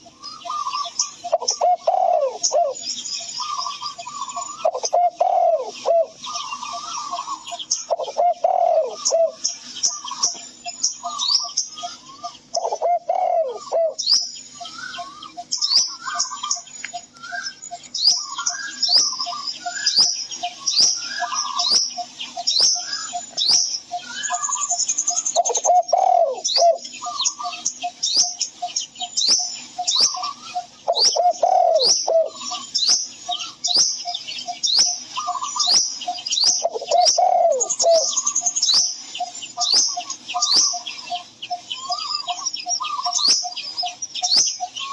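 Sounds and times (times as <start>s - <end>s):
dove cooing: 0.0s - 44.9s
small birds chirping: 0.0s - 44.9s.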